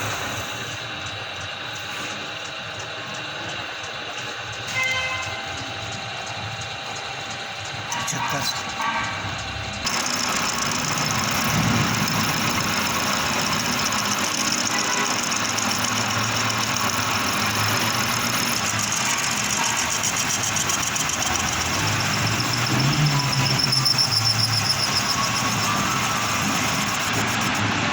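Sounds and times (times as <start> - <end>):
lathe motor hum: 0.0 - 27.8
high metal cutting noise: 4.2 - 27.9.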